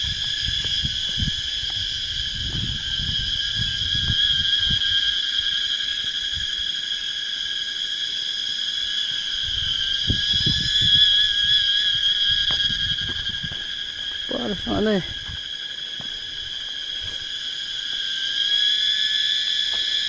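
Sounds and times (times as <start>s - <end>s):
high-pitched insect buzzing drone: 0.0s - 20.0s.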